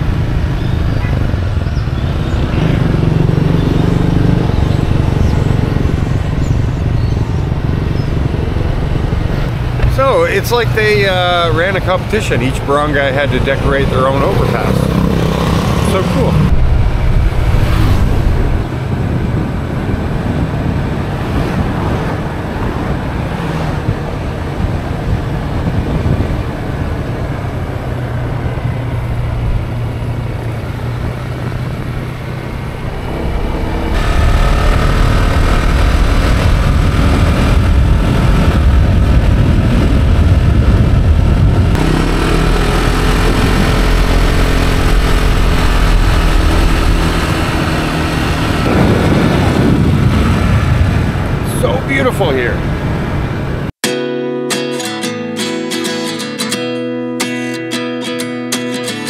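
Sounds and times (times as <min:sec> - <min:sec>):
vehicle engine and road noise: 0:00.0 - 0:53.8.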